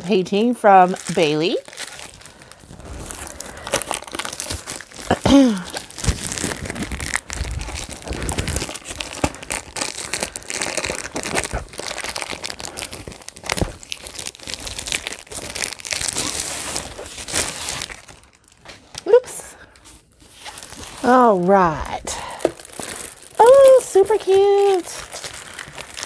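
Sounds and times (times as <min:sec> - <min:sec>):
plastic packaging crinkling: 0:00.1 - 0:26.0.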